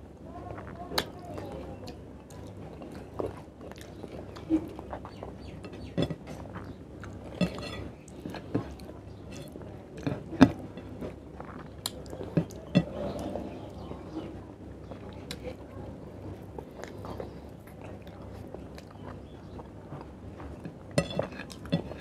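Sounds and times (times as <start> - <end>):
man chewing food: 1.4 - 15.6, 16.2 - 22.0.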